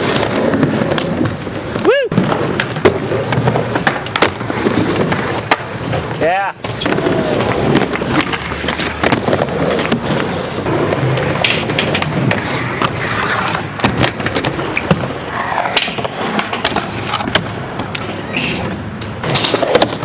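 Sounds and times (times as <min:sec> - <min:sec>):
skateboard wheels rolling: 0:00.0 - 0:20.0.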